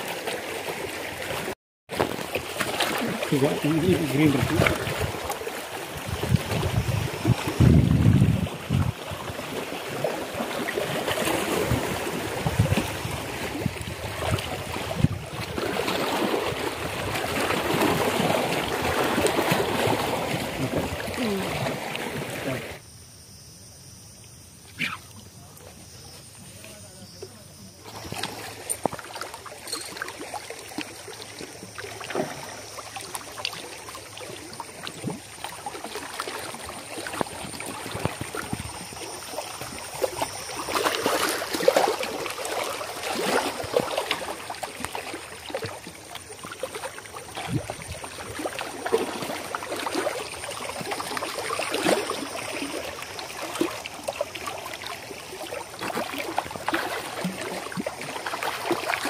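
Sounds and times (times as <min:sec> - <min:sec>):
fish thrashing and splashing: 0:00.0 - 0:22.7, 0:27.9 - 0:59.0
small waves lapping: 0:00.0 - 0:22.8, 0:24.6 - 0:59.0.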